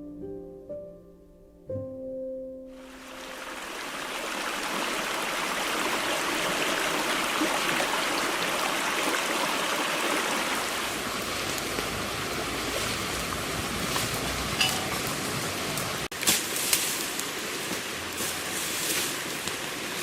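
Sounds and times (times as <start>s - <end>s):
running water rushing: 2.7s - 20.0s.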